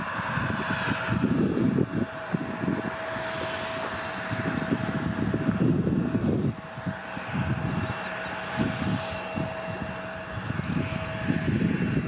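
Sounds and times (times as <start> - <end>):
jet engine whine: 0.0 - 12.0
wind buffeting microphone: 0.0 - 12.0.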